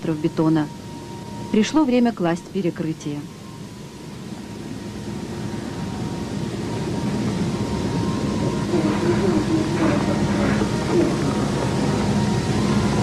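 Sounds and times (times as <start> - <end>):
machinery droning: 0.0 - 13.0.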